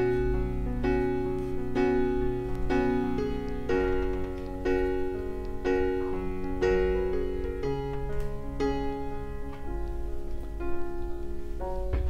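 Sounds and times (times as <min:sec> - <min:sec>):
slow gentle piano piece: 0:00.0 - 0:12.0.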